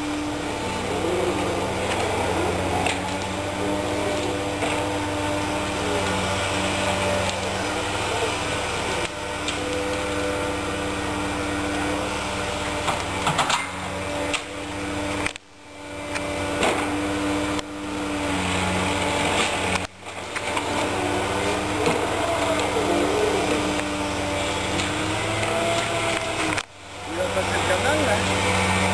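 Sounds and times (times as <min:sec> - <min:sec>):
diesel engine and hydraulics running: 0:00.0 - 0:28.9.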